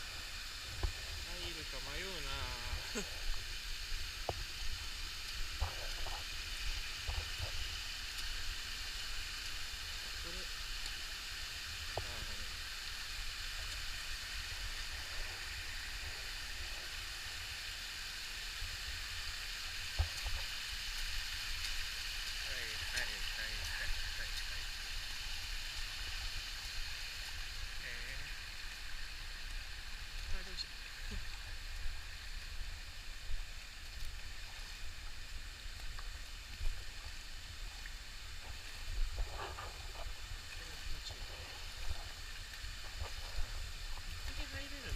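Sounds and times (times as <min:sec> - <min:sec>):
flowing water in stream: 0:00.0 - 0:44.9.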